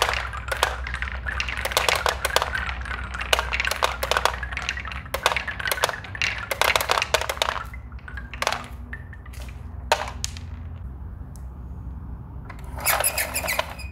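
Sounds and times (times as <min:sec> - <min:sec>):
wooden balls knocking and clattering: 0:00.0 - 0:11.6.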